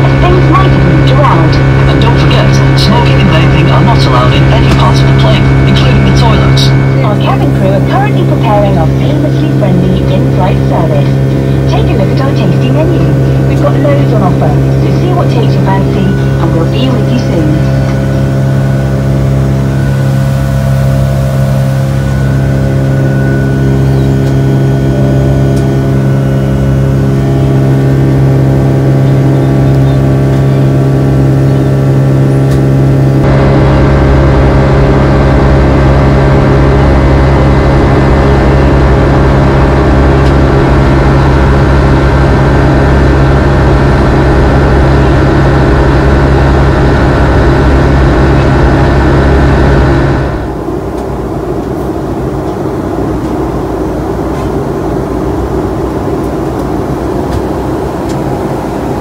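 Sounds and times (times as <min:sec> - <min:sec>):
jet engines droning in cabin: 0:00.0 - 0:59.0.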